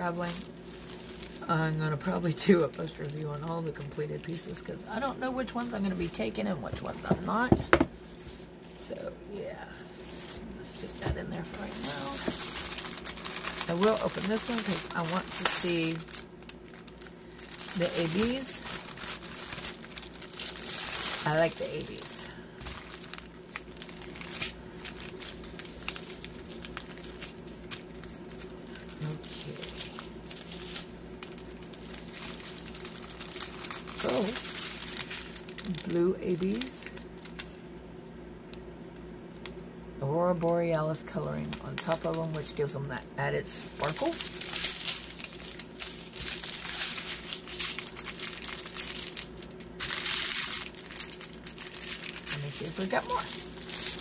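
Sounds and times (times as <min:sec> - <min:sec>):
plastic packaging crinkling: 0:00.0 - 0:38.7, 0:40.2 - 0:54.0.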